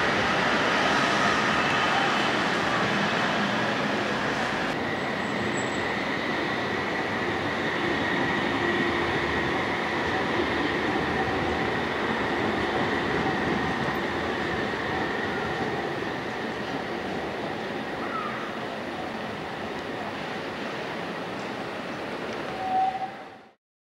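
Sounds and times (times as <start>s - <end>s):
street noise: 0.0s - 23.6s
tram high whine: 0.0s - 23.6s.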